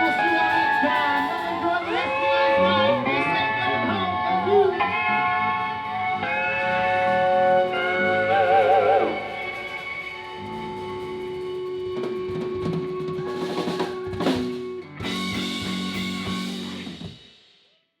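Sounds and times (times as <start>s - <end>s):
live band playing: 0.0s - 17.4s.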